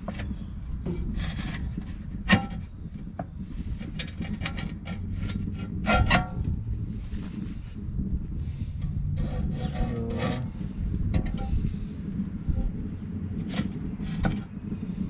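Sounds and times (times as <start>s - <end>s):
low rumble: 0.0s - 15.0s
metal scraping: 0.0s - 15.0s.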